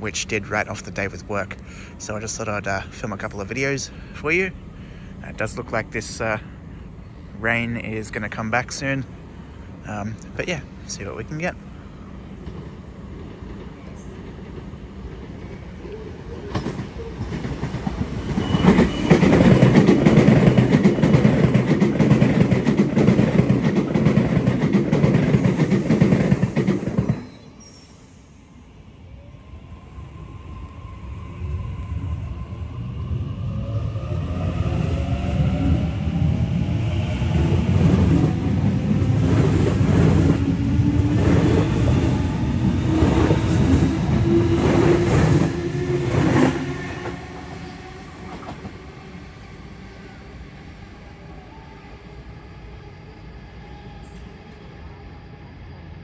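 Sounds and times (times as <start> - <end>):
train wheels rumbling on rail: 0.0 - 28.4, 29.7 - 51.0.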